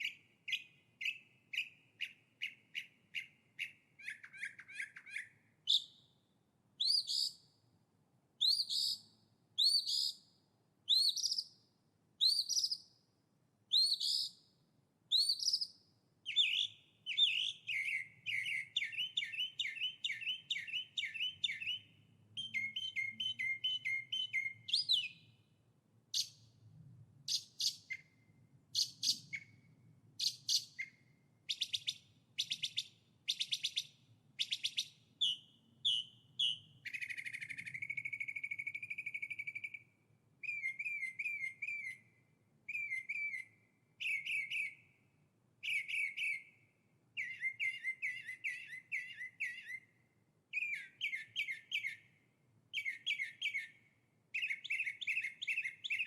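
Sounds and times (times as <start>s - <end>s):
songbird singing: 0.0s - 7.6s, 8.4s - 13.1s, 13.7s - 56.0s.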